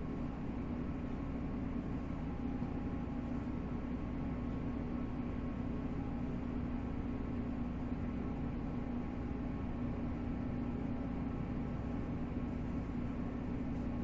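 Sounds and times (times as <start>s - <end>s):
train interior hum and rumble: 0.0s - 14.0s.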